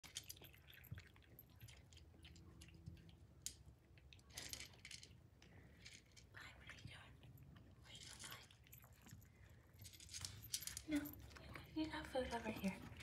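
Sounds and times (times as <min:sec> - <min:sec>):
kittens crunching dry kibble: 0:00.0 - 0:13.0.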